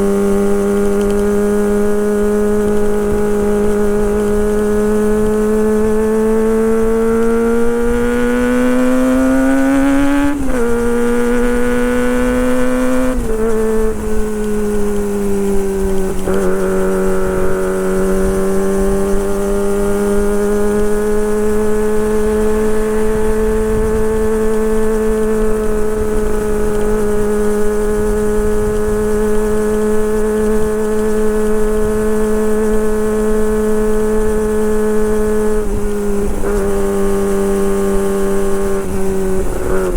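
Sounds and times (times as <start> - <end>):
motorcycle engine revving under load: 0.0 - 39.9.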